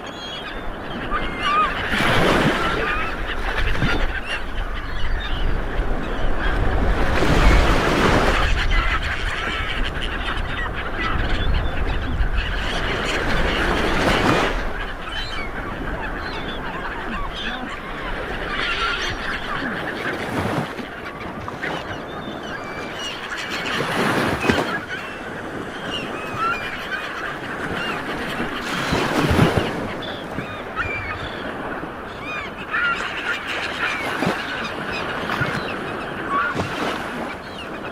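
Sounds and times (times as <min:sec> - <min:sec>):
flock of birds calling: 0:00.0 - 0:37.9.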